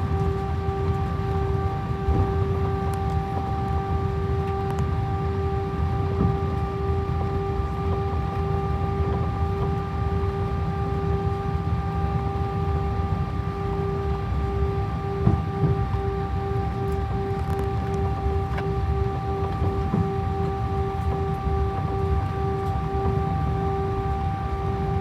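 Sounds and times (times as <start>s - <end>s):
jet engines droning in cabin: 0.0s - 25.0s.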